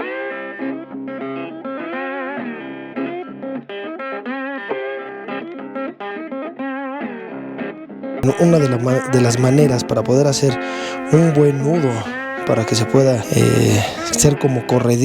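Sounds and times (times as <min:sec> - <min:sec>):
guitar melody with bent notes: 0:00.0 - 0:15.0.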